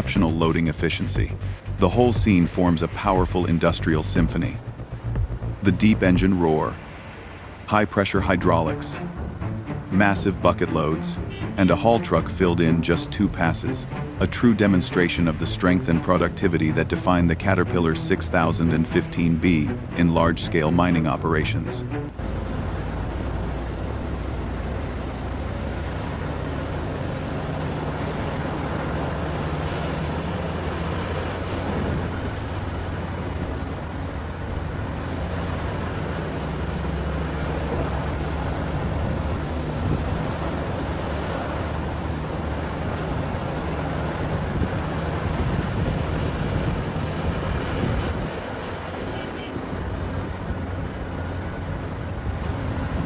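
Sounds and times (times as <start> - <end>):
excavator diesel engine rumbling: 0.0 - 53.0
machine noise: 8.1 - 53.0.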